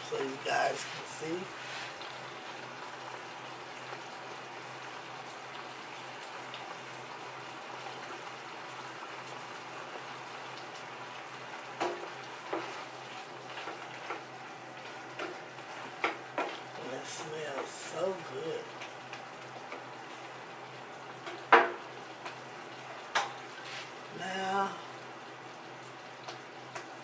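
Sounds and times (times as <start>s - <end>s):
shrimp sizzling in frying pan: 0.0s - 27.0s.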